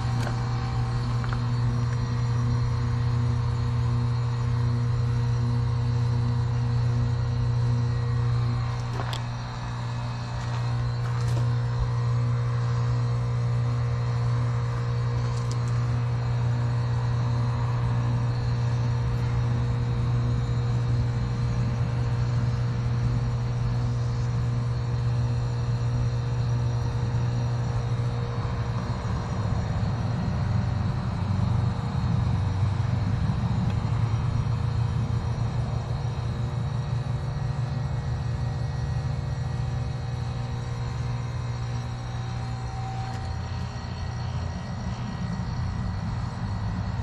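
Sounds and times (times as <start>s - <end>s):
heat pump compressor hum: 0.0s - 47.0s
outdoor fan: 0.0s - 47.0s.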